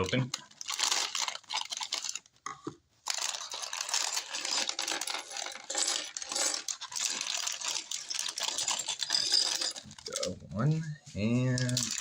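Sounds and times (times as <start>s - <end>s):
plastic bricks clattering: 0.0s - 2.3s, 3.0s - 10.4s, 11.5s - 12.0s.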